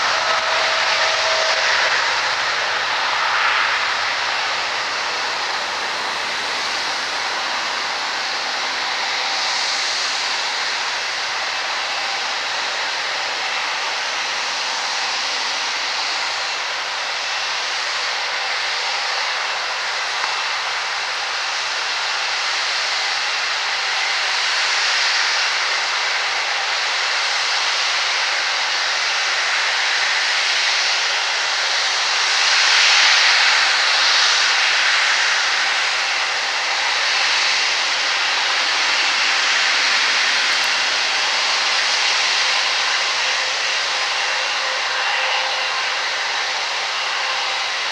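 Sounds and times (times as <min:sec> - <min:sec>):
jet engines at take-off: 0:00.0 - 0:47.9.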